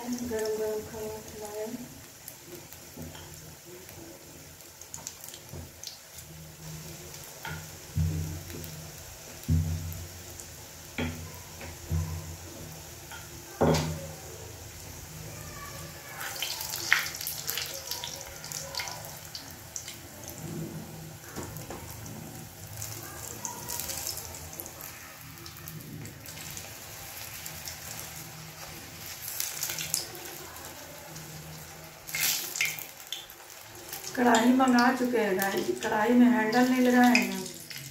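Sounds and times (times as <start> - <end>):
food sizzling in hot oil: 0.0 - 37.9.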